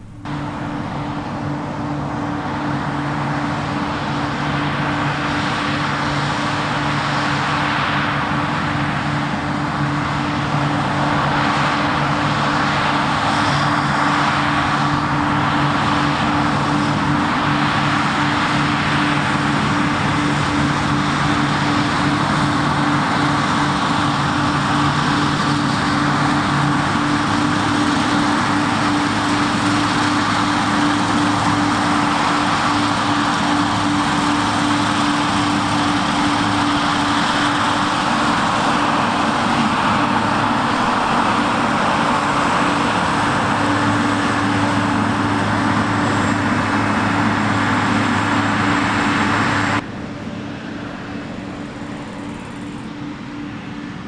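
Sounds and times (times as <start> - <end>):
harvest machinery engine drone: 0.0 - 54.0.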